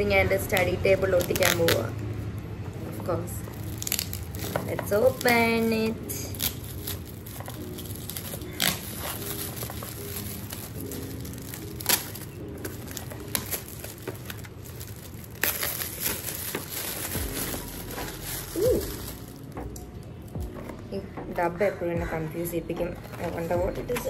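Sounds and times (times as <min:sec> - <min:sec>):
gift wrapping tearing and crinkling: 0:00.2 - 0:20.1.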